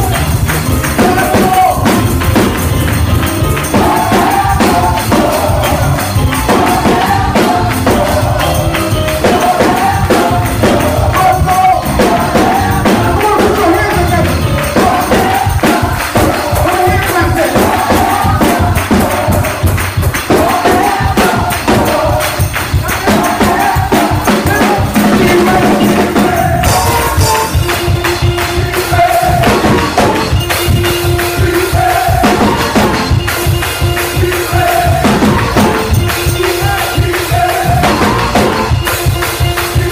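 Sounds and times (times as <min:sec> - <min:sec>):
choir singing gospel: 0:00.0 - 0:39.9
drum kit beat: 0:00.0 - 0:39.9
tambourine: 0:00.0 - 0:39.9.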